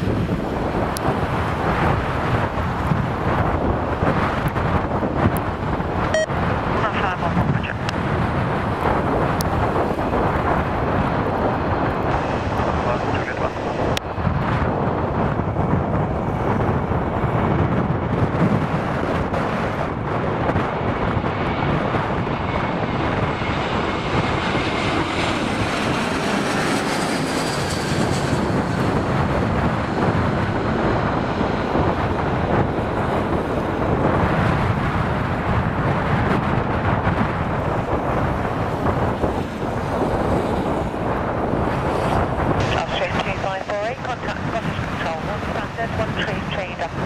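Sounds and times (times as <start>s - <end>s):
jet engines passing overhead: 0.0s - 47.0s
wind buffeting microphone: 0.0s - 47.0s.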